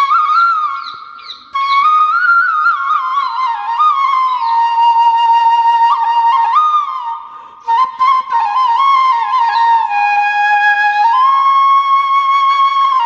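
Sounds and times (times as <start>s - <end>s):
flute playing slow melody: 0.0s - 13.0s.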